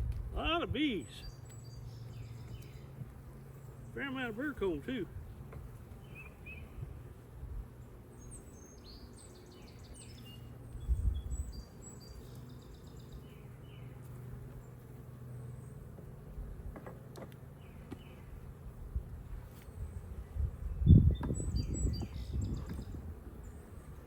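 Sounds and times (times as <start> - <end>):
beehive humming: 0.0 - 24.0
songbird chirping: 0.7 - 16.2, 17.1 - 24.0.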